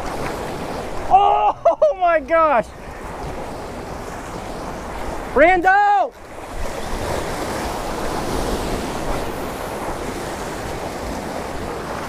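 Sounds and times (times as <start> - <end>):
sea surf washing over boulders: 0.0 - 12.0.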